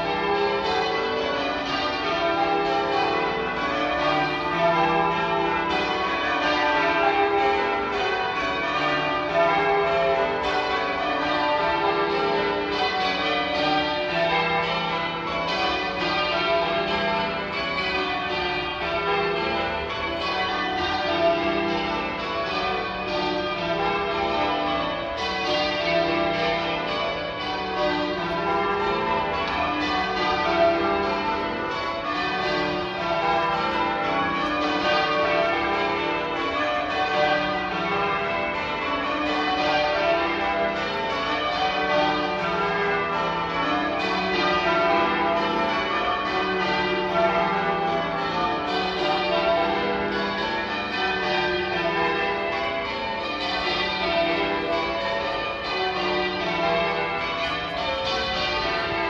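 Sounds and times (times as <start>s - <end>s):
church bells change ringing: 0.0s - 59.0s.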